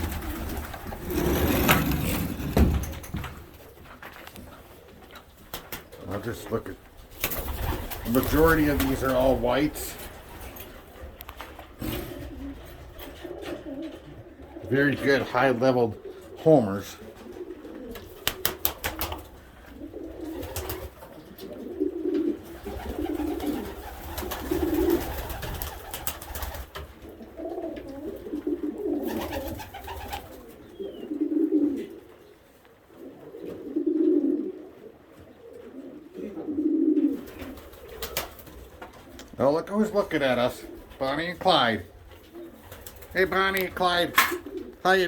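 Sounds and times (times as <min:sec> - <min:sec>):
pigeons cooing: 0:00.0 - 0:45.0.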